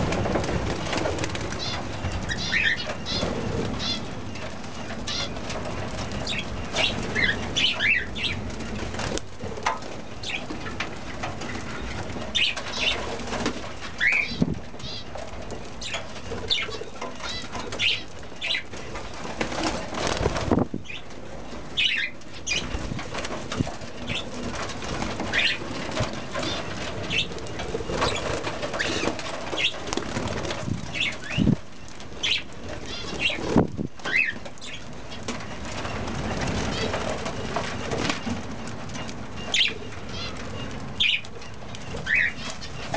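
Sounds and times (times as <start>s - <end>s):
birds chattering and chirping: 0.0s - 42.9s
wings fluttering: 0.0s - 42.9s.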